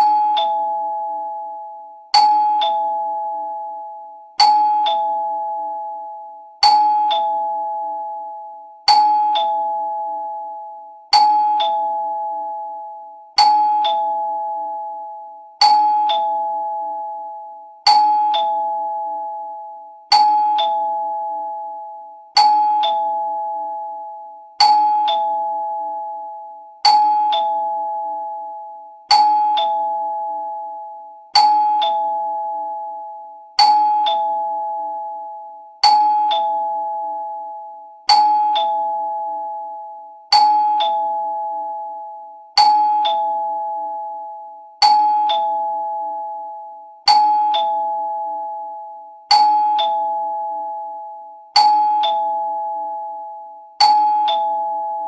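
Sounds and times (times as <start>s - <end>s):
two-note doorbell chime: 0.0s - 55.0s.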